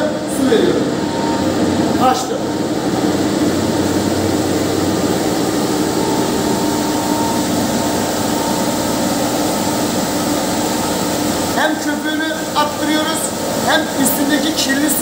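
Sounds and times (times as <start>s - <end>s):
spin-dryer drum spinning: 0.2s - 15.0s.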